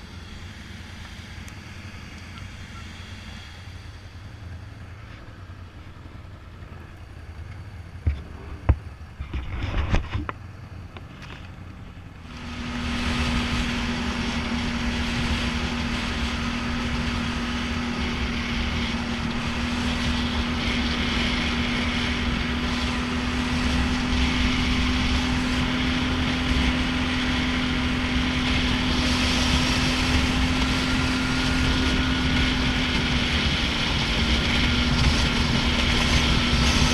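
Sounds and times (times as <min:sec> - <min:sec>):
quad bike engine: 0:00.0 - 0:36.9
tyres on gravel road: 0:00.0 - 0:36.9.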